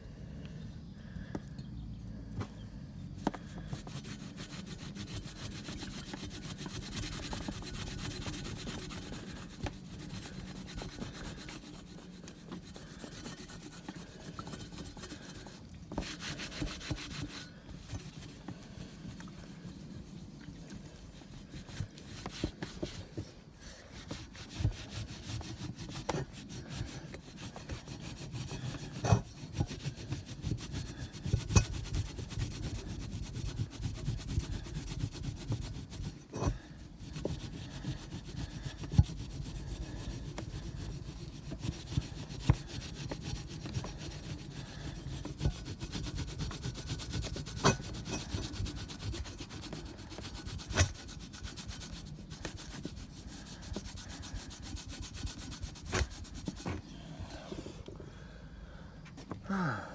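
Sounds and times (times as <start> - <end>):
rag rubbing on metal tube: 3.3 - 57.7.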